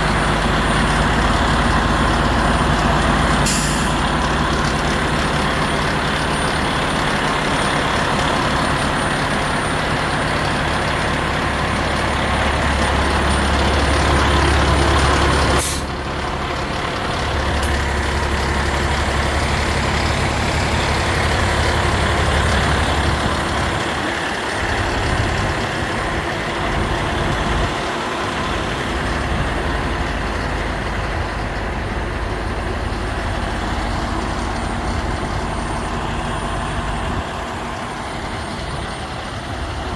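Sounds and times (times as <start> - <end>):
garbage truck diesel engine: 0.0 - 39.9.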